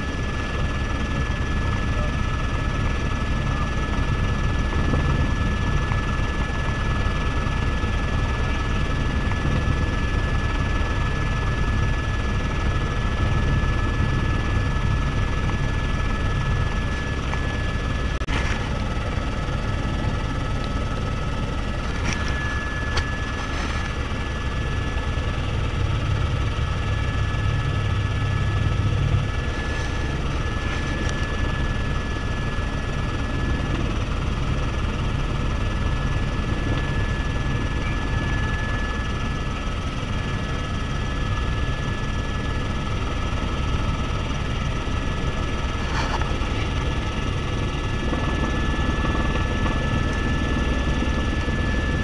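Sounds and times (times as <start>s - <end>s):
helicopter rotor and turbine noise: 0.0s - 52.0s.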